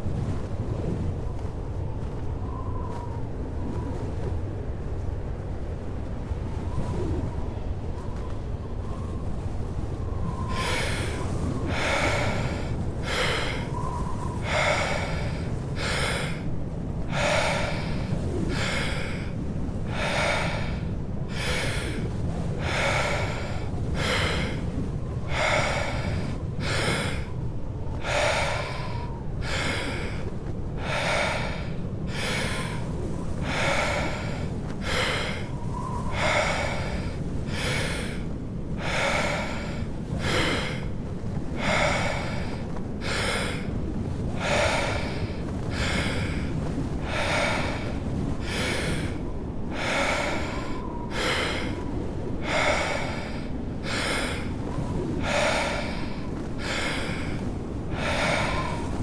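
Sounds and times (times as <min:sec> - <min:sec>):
low rumble of storm wind: 0:00.0 - 0:59.0
deep fast breathing: 0:10.2 - 0:59.0.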